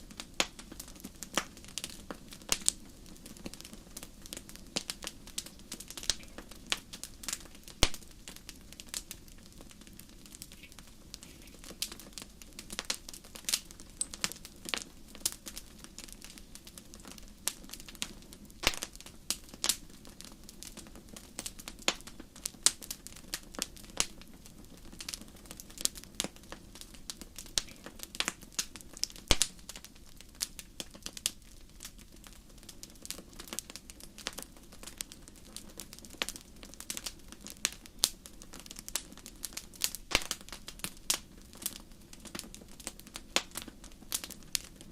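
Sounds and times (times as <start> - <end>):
low rumble of flames: 0.0 - 44.9
wood fire crackling and popping: 0.0 - 44.9.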